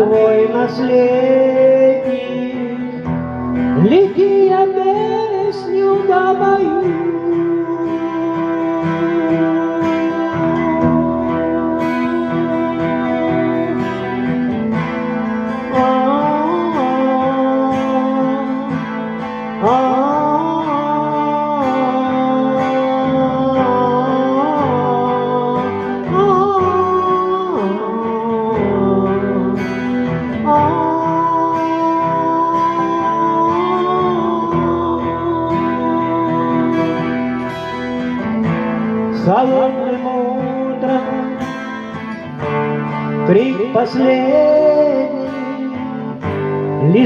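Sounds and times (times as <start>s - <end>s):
guitar chords: 0.0s - 47.0s
guitar melody with bent notes: 0.0s - 47.0s.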